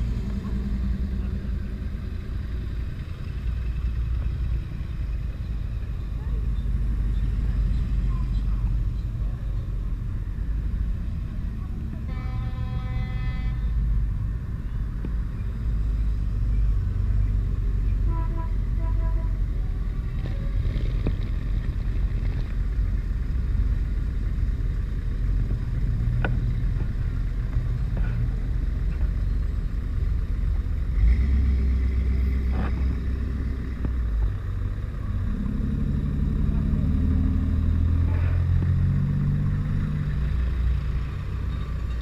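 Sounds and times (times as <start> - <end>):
cars driving past: 0.0 - 42.0.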